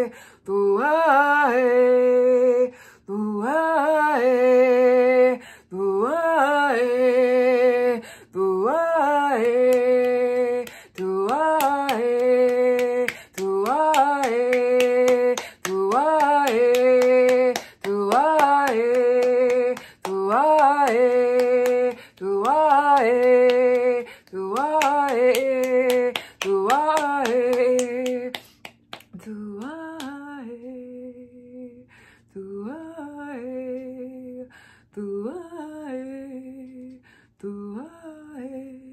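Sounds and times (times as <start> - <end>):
woman singing wordless tones: 0.0 - 38.9.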